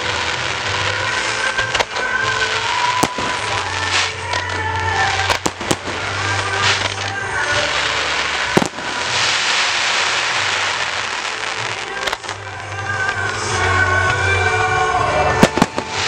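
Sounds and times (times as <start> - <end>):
faint music: 0.0 - 16.0
fireworks bangs: 0.0 - 16.0
fireworks crackling hiss: 0.0 - 16.0.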